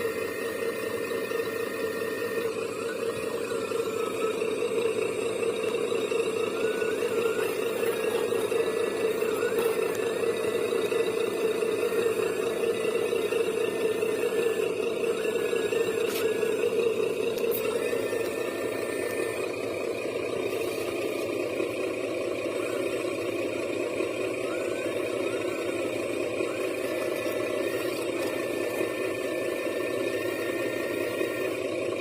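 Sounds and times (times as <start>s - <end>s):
electric motor whir: 0.0s - 32.0s
high motor whines: 0.0s - 32.0s.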